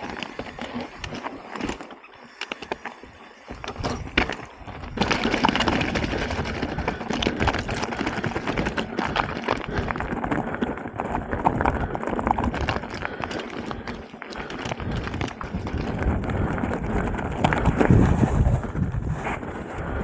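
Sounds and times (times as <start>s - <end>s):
bike rattling: 0.0s - 20.0s
tyres crunching on stones: 0.0s - 20.0s.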